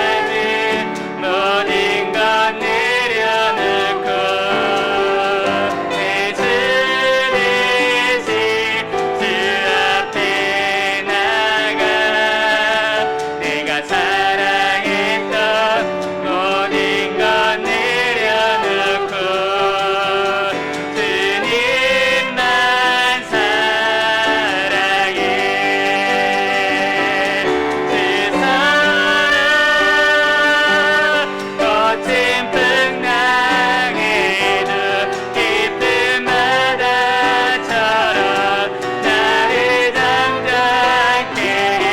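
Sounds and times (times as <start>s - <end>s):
group singing worship song: 0.0s - 41.9s
piano chords: 0.0s - 41.9s.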